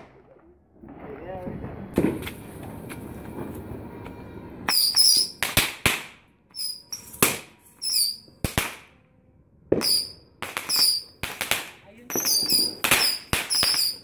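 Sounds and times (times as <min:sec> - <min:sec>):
firecrackers banging: 0:00.0 - 0:09.0, 0:09.7 - 0:14.0.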